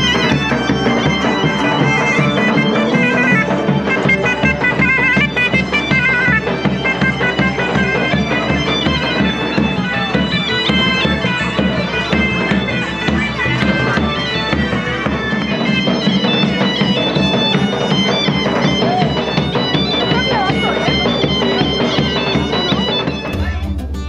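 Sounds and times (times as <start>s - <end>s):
bagpipes playing: 0.0s - 23.6s
drumbeat: 0.0s - 24.0s.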